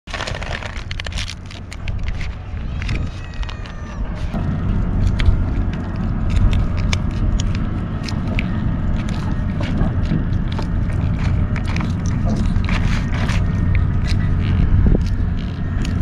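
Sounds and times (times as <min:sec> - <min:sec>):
food pouches crinkling: 0:00.1 - 0:16.0
wind rumble on microphone: 0:00.1 - 0:16.0.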